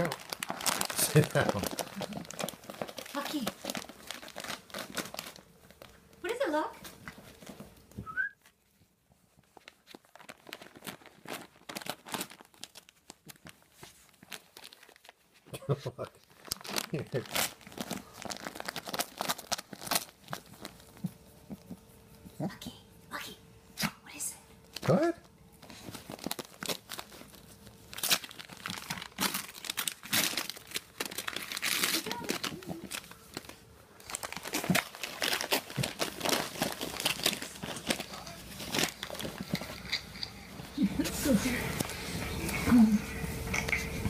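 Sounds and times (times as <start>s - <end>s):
wrapping paper crinkling and tearing: 0.0s - 7.8s, 9.2s - 22.0s, 24.7s - 44.0s.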